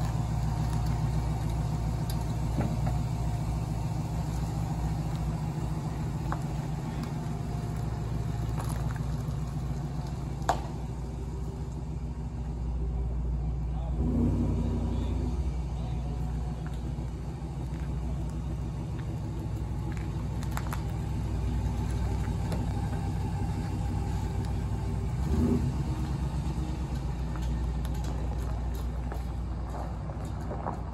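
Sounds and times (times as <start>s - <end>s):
pickup engine rumbling: 0.0s - 30.9s.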